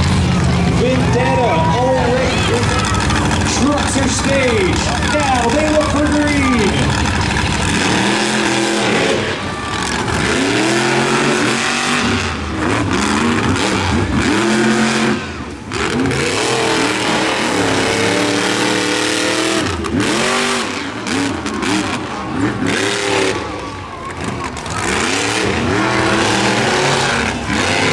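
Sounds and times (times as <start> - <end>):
monster truck engines revving: 0.0 - 27.9.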